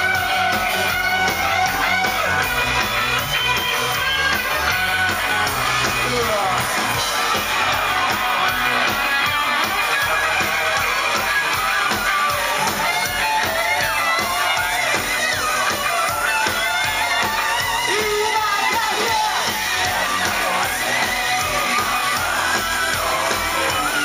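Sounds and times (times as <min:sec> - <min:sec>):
drums: 0:00.0 - 0:24.0
electric guitar: 0:00.0 - 0:24.0
live rock band playing: 0:00.0 - 0:24.0
man singing: 0:03.6 - 0:24.0.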